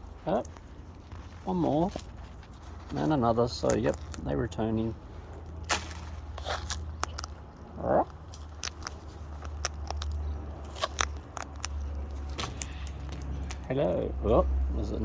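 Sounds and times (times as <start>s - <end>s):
birds cracking seed: 0.0s - 14.0s.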